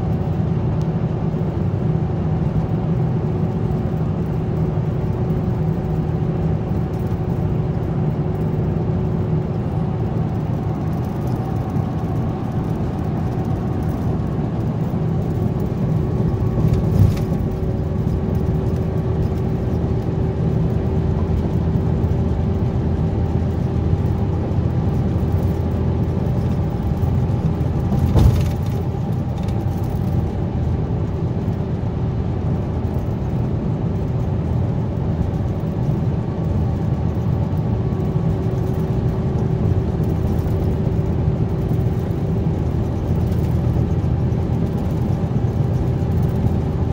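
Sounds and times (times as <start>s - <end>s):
diesel bus engine droning: 0.0s - 46.9s.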